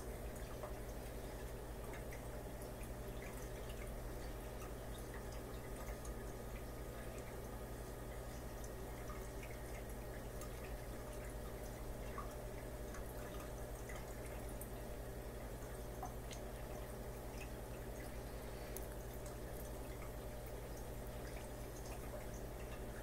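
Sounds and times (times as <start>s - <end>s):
aquarium hum and water: 0.0s - 23.0s
faint drips: 0.0s - 23.0s.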